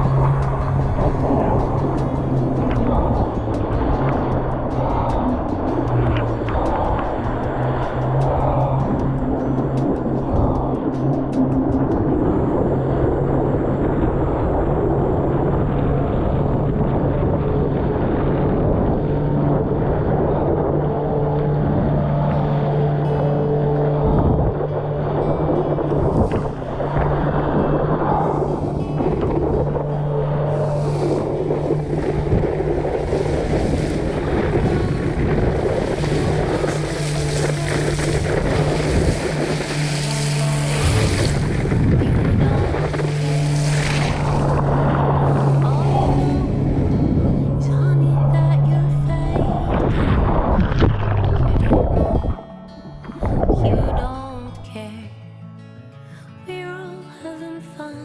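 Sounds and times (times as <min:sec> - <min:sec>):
low held tones: 0:00.0 - 0:54.6
low hum: 0:00.0 - 0:54.6
wind on microphone: 0:00.0 - 0:54.6
boat rushing through water: 0:00.0 - 0:54.7.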